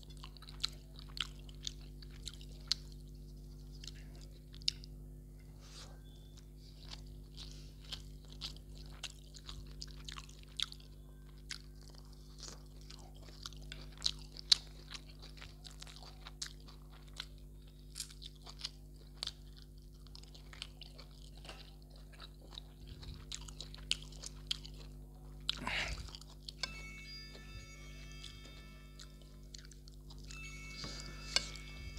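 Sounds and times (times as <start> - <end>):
close chewing: 0.0 - 5.0, 5.7 - 31.9
steady low hum: 0.0 - 31.9.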